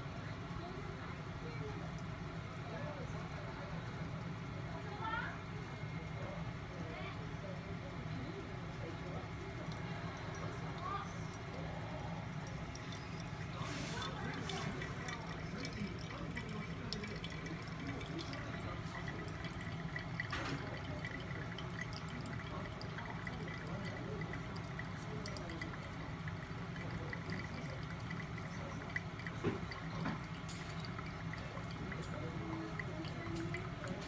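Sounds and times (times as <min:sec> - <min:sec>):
water pouring onto coffee grounds: 0:00.5 - 0:34.0
coffee dripping into glass server: 0:05.9 - 0:34.0.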